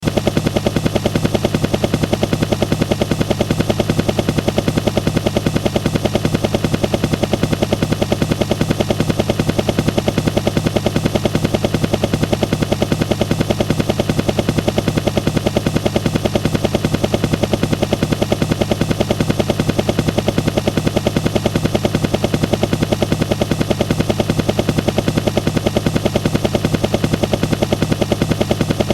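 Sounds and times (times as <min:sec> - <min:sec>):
helicopter rotor beat: 0:00.0 - 0:28.9
low engine drone: 0:00.0 - 0:28.9.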